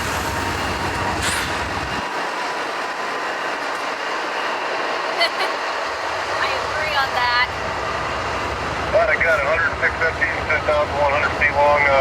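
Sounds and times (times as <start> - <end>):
freight train wheel and rail noise: 0.0 - 12.0.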